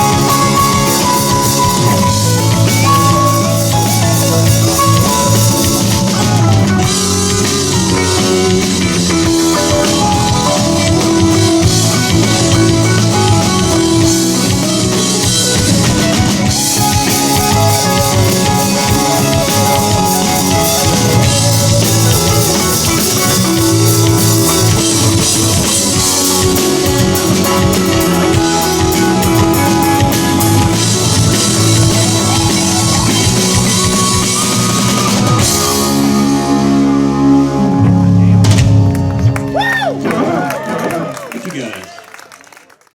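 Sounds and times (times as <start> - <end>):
live rock band playing: 0.0 - 41.6.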